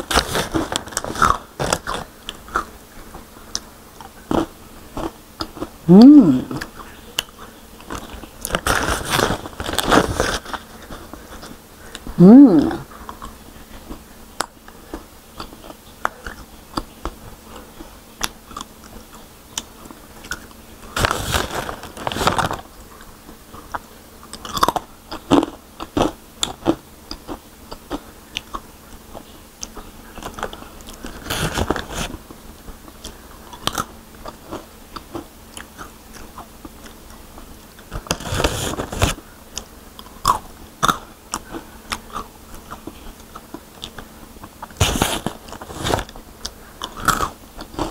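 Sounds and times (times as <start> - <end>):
crunching and chewing chips: 0.0 - 47.9.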